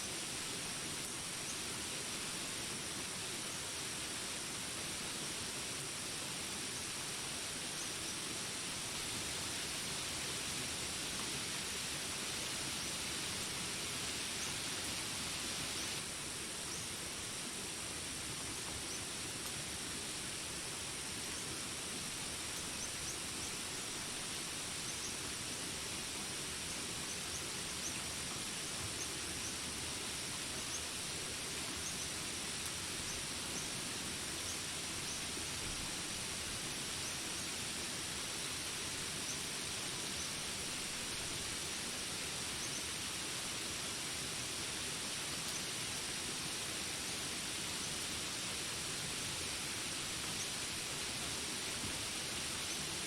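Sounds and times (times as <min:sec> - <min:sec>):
steady hiss of rain: 0:00.0 - 0:53.0.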